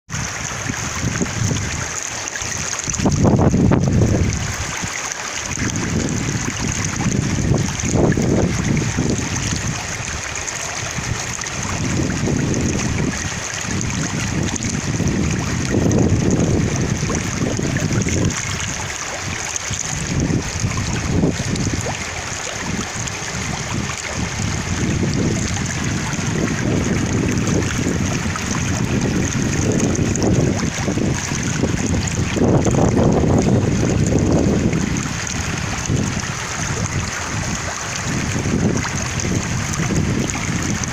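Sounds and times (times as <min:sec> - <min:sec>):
stream flowing: 0:00.1 - 0:40.9
wind rumbling on microphone: 0:00.1 - 0:40.9.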